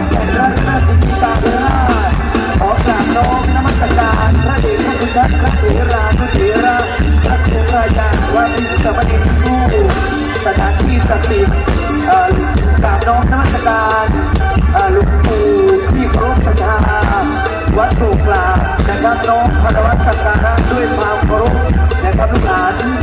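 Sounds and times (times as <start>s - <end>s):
amplified live band playing: 0.0s - 23.0s
heavy bass drum beat: 0.0s - 23.0s.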